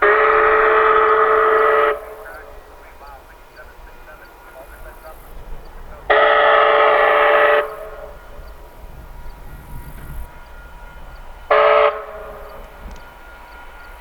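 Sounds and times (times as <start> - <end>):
steam whistle blasts: 0.0 - 14.0.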